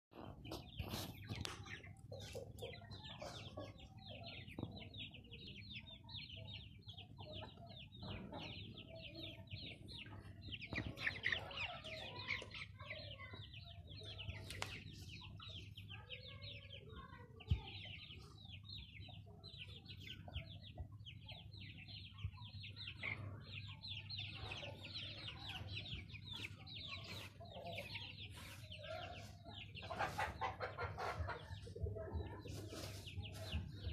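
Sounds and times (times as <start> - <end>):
chickens clucking: 0.1 - 33.9
chicks peeping: 0.1 - 33.9.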